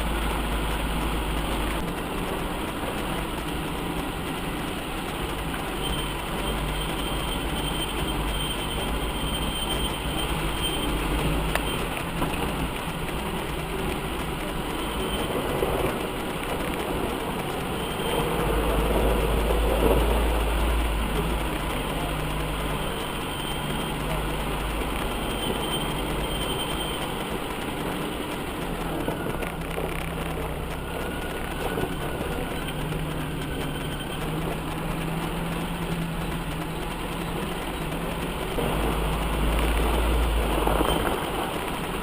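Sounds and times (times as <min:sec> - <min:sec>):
off-road vehicle engine rumbling: 0:00.0 - 0:42.0.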